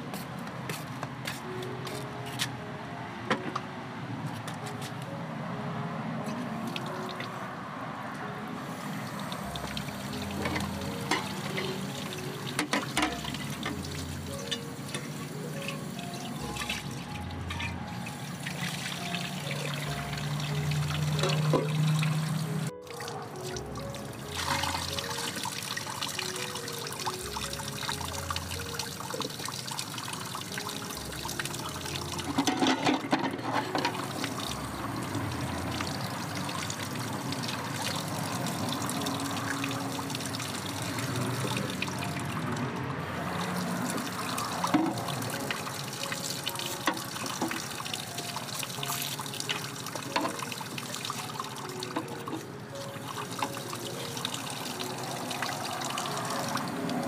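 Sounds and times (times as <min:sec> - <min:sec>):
tap water running into basin: 0:09.2 - 0:42.5, 0:43.1 - 0:57.0.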